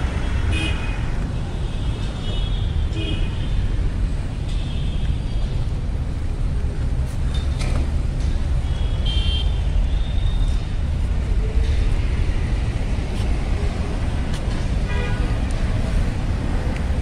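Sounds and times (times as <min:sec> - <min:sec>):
cars and motorbikes passing: 0:00.0 - 0:17.0.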